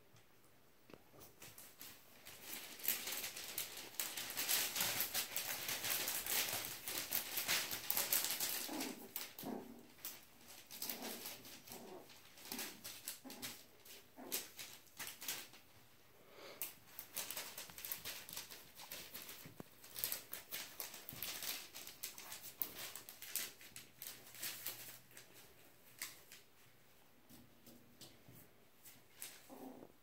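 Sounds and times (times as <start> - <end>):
puppies scuffling and pattering: 0.8 - 16.0, 16.6 - 30.0.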